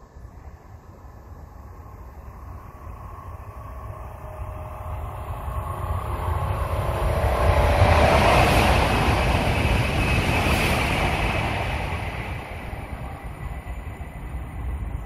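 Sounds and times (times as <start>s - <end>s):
train rumble and rail noise: 0.0s - 15.0s.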